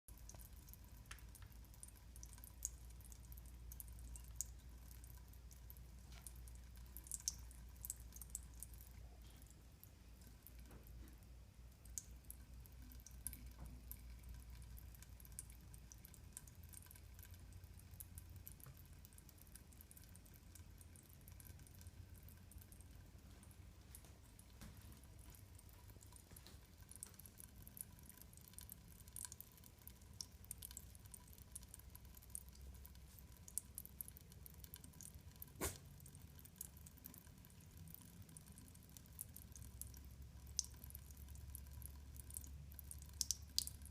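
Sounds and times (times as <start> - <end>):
cat lapping water: 0.1 - 43.9.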